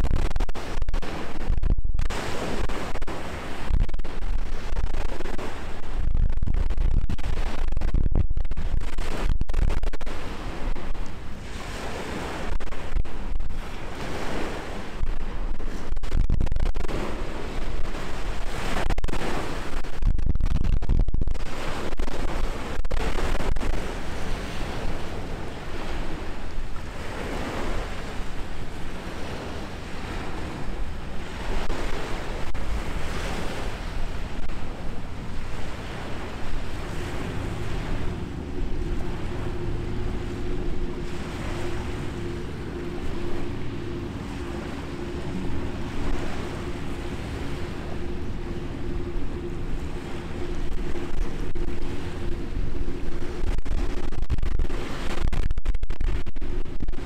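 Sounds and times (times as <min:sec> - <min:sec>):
waves washing in: 0:00.0 - 0:20.2, 0:21.3 - 0:57.0
boat engine hum: 0:00.0 - 0:20.4, 0:21.4 - 0:57.0
wind buffeting microphone: 0:00.0 - 0:57.0.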